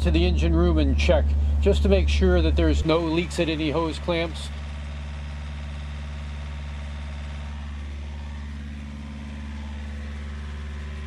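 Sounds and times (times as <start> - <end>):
marine diesel engine droning: 0.0 - 11.0.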